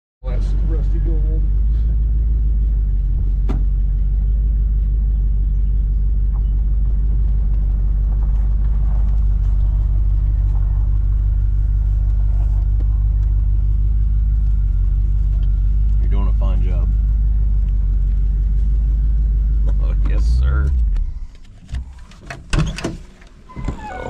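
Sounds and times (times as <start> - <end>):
vehicle engine running: 0.2 - 22.1.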